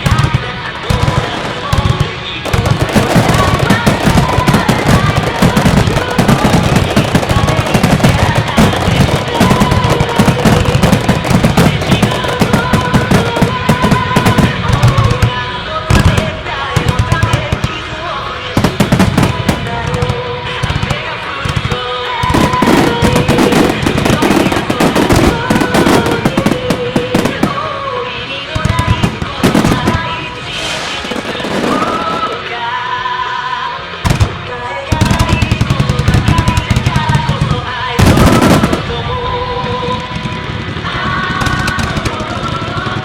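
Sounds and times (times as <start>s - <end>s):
fireworks crackling and banging: 0.0s - 43.0s
pop music over loudspeakers: 0.0s - 43.0s.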